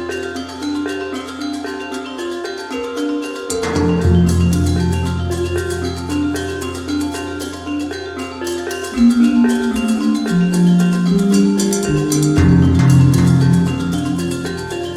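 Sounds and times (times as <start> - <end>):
light ticking percussion: 0.0 - 14.9
mallet percussion melody: 0.0 - 14.9.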